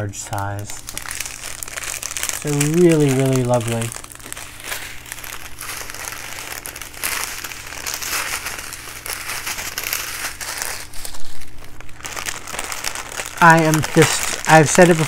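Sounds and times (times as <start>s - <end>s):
plastic bags crinkling: 0.0s - 15.0s
steady low hum: 0.0s - 15.0s.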